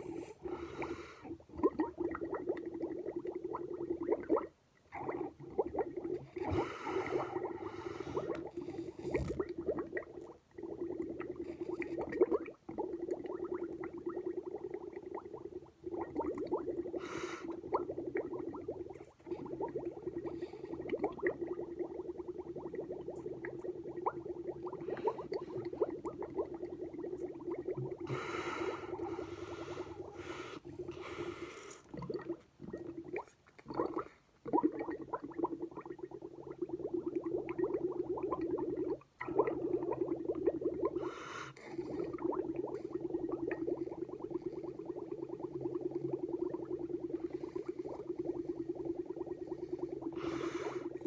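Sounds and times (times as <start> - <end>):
bubbling through a straw in milk: 0.0 - 51.0.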